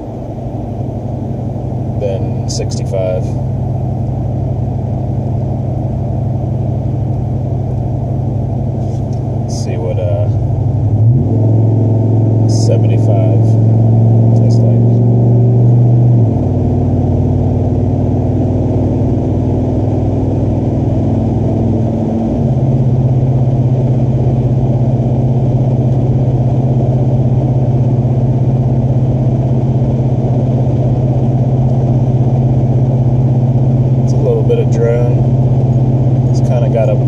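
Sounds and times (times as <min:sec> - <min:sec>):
truck exhaust drone inside cab: 0:00.0 - 0:37.0.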